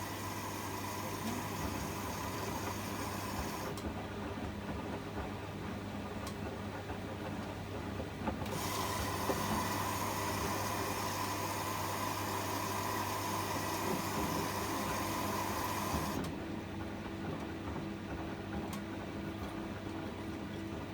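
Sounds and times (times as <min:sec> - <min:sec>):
washing machine hum: 0:00.0 - 0:20.9.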